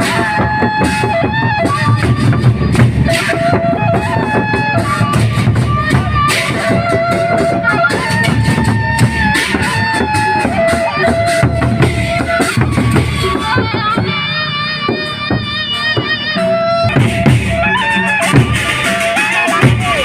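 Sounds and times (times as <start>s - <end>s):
big drums beating: 0.0s - 20.0s
reedy wind melody: 0.0s - 20.0s.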